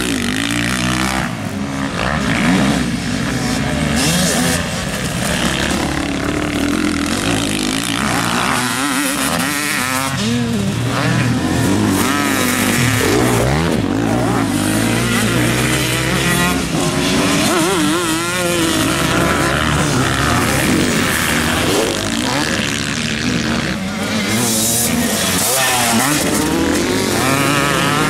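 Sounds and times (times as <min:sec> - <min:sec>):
motocross engines revving: 0:00.0 - 0:28.0.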